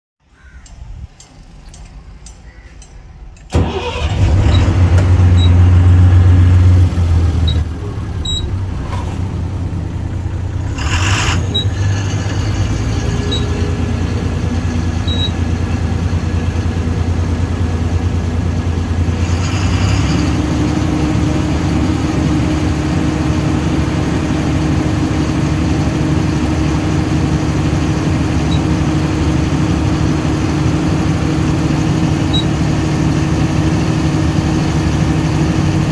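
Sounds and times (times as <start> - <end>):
diesel engine starting and idling: 3.4 - 35.9.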